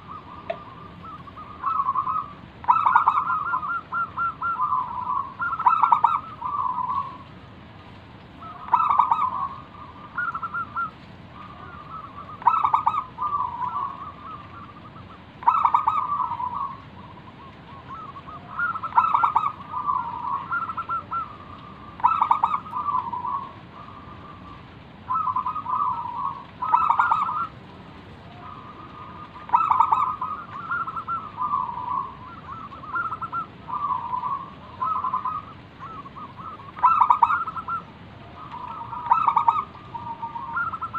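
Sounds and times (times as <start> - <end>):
dove cooing song: 0.0 - 7.4, 8.4 - 40.9.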